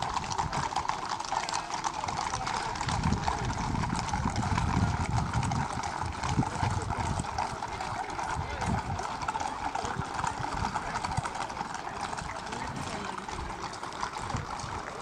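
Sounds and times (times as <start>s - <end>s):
horse hooves clip-clopping on pavement: 0.0s - 15.0s.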